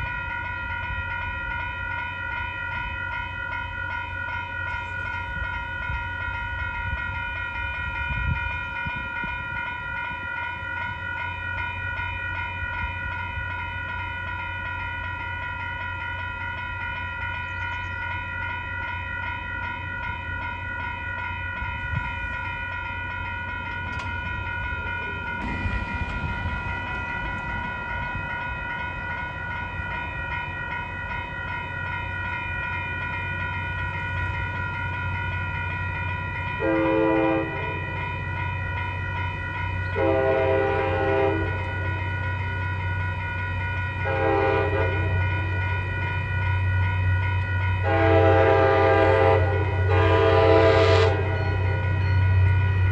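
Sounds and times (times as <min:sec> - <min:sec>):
crossing bell ringing: 0:00.0 - 0:52.9
passing train rumble: 0:00.0 - 0:52.9.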